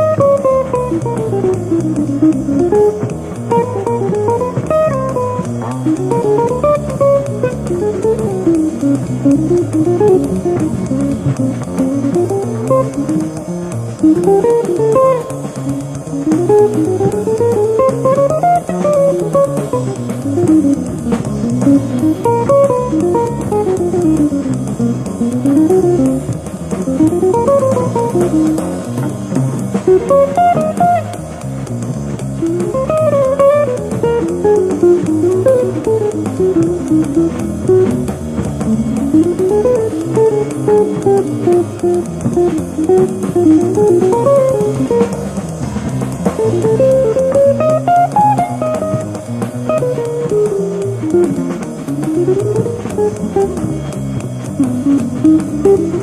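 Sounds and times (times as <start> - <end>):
drums: 0.0 - 56.0
electric guitar fast lines: 0.0 - 56.0
walking upright bass: 0.0 - 56.0.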